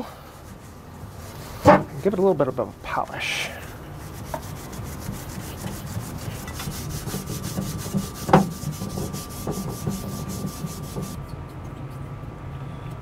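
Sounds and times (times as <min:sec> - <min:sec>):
towel rubbing on metal: 0:00.4 - 0:11.2.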